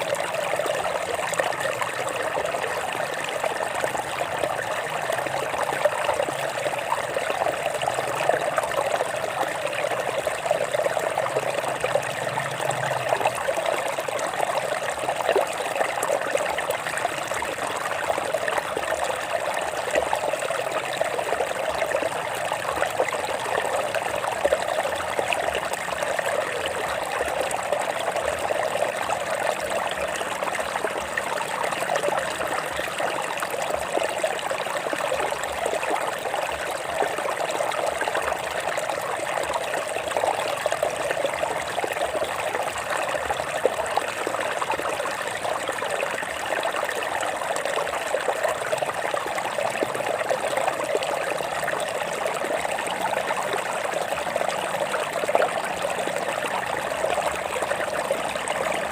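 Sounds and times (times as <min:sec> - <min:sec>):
stream trickling over rocks: 0:00.0 - 0:58.9.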